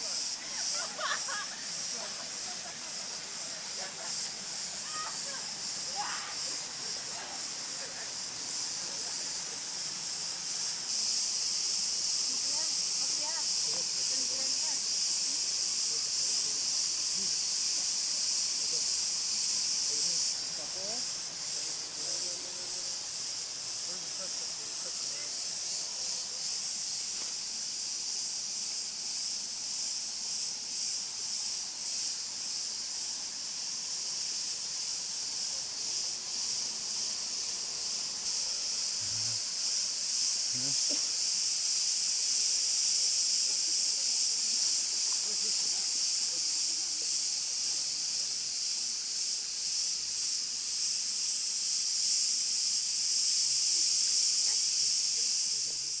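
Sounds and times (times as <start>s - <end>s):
cicadas chorus: 0.0s - 56.0s
insects buzzing: 0.0s - 56.0s.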